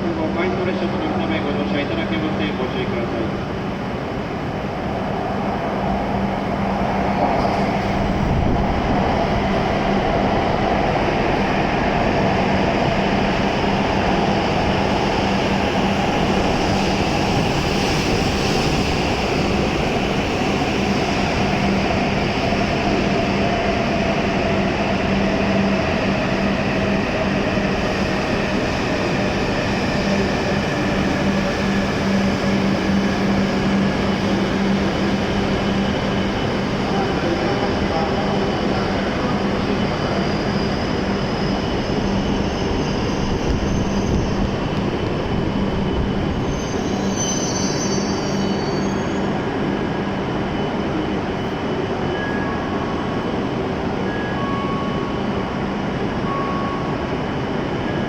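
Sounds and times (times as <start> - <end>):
train braking into platform: 0.0 - 58.0.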